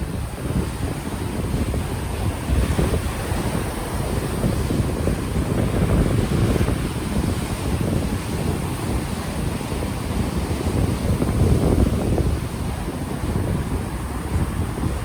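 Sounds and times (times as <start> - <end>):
ocean waves washing ashore: 0.0 - 15.0
wind buffeting microphone: 0.0 - 15.0.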